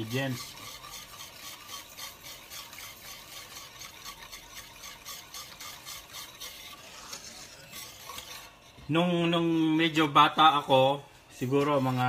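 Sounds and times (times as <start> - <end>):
whisk scraping metal pan: 0.0 - 12.0.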